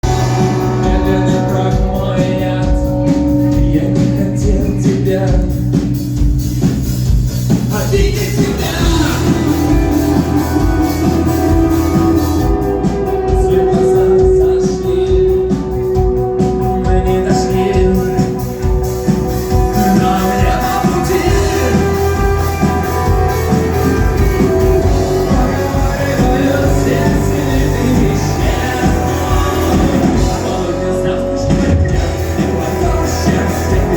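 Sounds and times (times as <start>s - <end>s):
person singing: 0.0s - 6.2s, 7.6s - 33.9s
electric guitars: 0.0s - 33.9s
rock music: 0.0s - 33.9s
steady drum beat: 0.0s - 33.9s.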